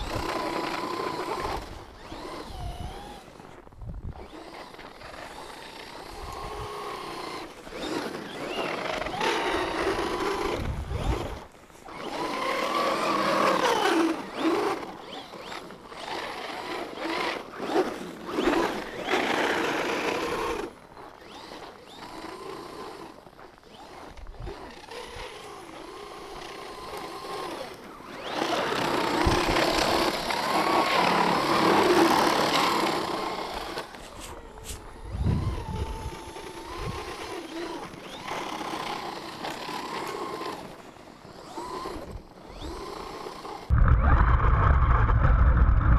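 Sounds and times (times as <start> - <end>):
electric motor whining: 0.0 - 45.9
tyres churning through snow: 0.0 - 45.9.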